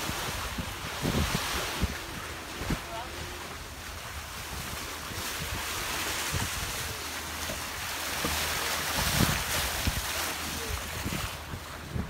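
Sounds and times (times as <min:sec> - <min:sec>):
sea water rushing past hulls: 0:00.0 - 0:12.0
wind buffeting microphone: 0:00.0 - 0:12.0.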